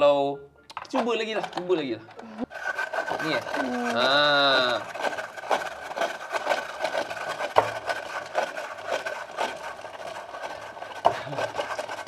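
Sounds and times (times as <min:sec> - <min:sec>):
hand-cranked ice shaver crunching ice: 0:00.8 - 0:12.0.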